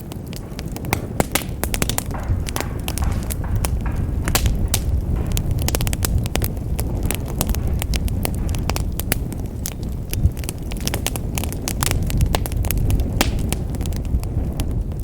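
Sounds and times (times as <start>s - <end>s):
burning logs crackling and popping: 0.0s - 15.0s
fire flames rumbling: 0.0s - 15.0s.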